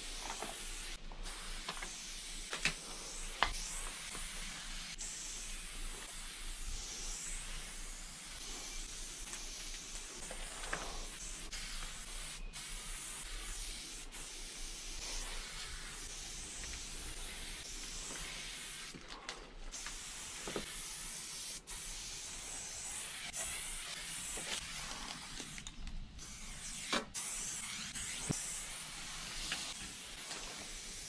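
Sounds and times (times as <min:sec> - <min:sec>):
spray paint can hissing: 0:00.0 - 0:19.0, 0:19.7 - 0:31.0.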